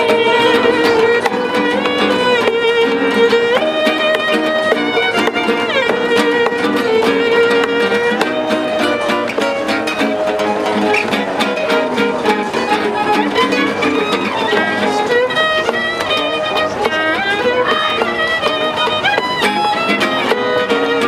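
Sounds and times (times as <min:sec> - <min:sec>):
cajon beat: 0:00.0 - 0:21.0
fiddle playing melody: 0:00.0 - 0:21.0
strummed acoustic guitars: 0:00.0 - 0:21.0.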